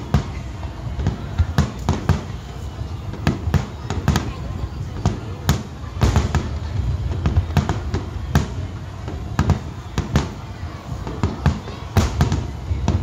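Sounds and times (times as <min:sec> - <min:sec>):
fireworks booms and cracks: 0:00.0 - 0:13.0.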